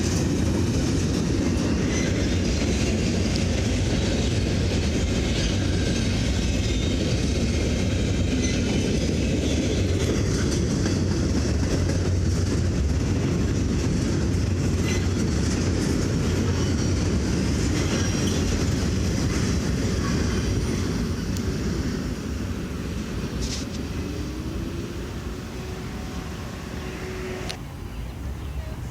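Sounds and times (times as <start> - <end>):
freight train cars rolling: 0.0 - 28.9.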